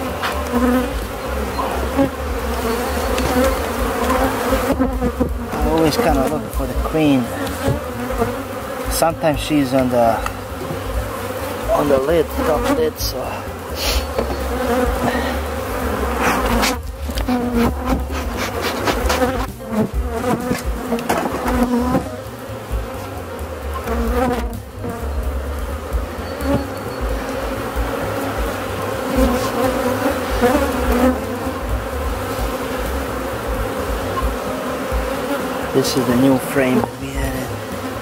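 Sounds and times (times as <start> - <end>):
honeybees buzzing: 0.0 - 38.0.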